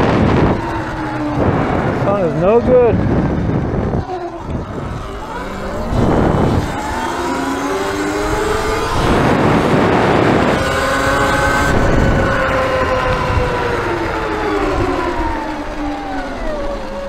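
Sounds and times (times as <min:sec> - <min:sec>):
electric motorbike motor whining: 0:00.0 - 0:17.0.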